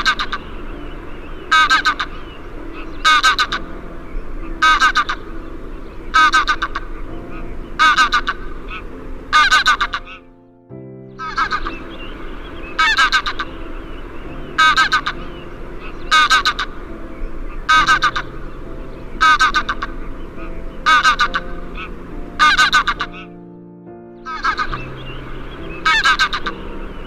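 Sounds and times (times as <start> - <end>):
bird honking call: 0.0 - 10.3, 11.2 - 23.4, 24.2 - 27.0
soft background music: 0.0 - 27.0.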